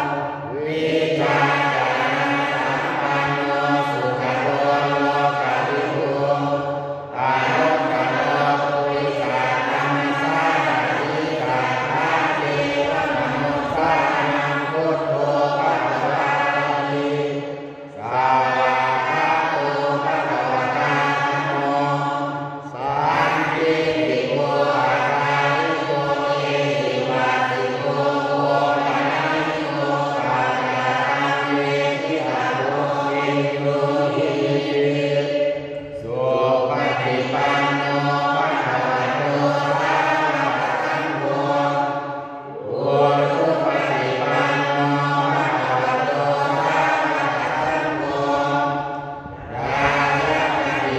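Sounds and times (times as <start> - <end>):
man chanting into a microphone: 0.0 - 42.0, 42.6 - 48.7.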